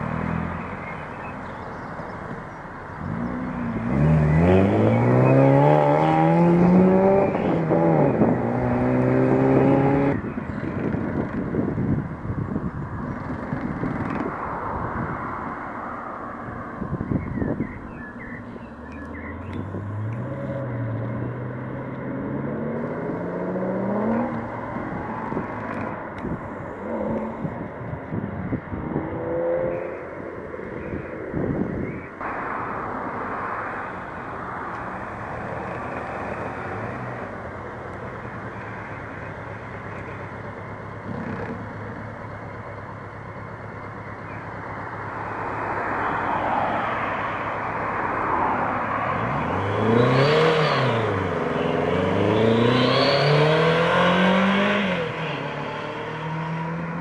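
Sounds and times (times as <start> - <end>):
car engines revving: 0.0 - 57.0
road noise: 0.0 - 57.0.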